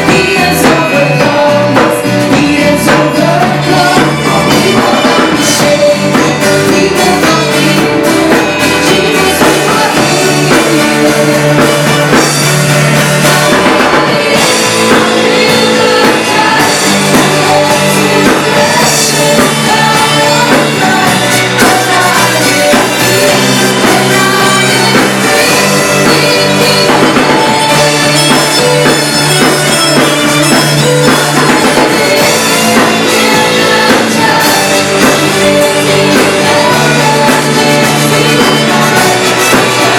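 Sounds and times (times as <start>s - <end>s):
drum kit: 0.0s - 39.9s
guitar: 0.0s - 39.9s
person singing: 0.0s - 39.9s
worship band playing: 0.0s - 39.9s.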